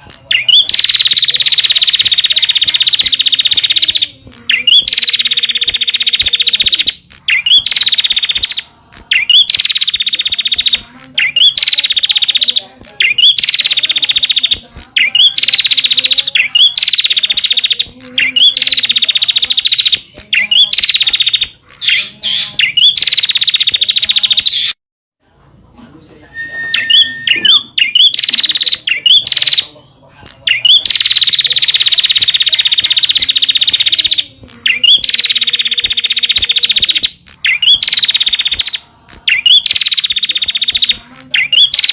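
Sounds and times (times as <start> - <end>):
bird song with buzzy trill: 0.0 - 24.8, 26.3 - 41.9.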